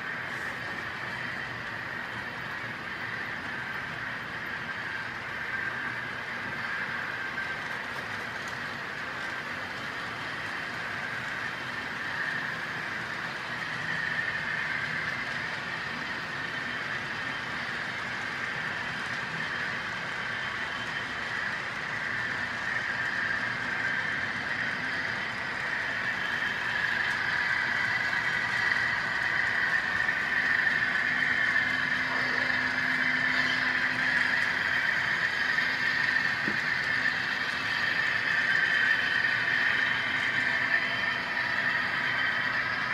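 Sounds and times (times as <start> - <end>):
model train wheels clattering: 0.1 - 42.9.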